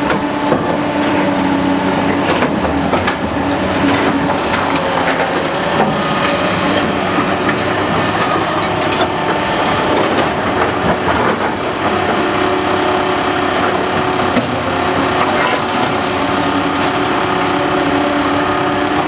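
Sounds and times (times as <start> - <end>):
loud mechanical noise: 0.0 - 19.0
clicking and rattling: 0.5 - 19.0.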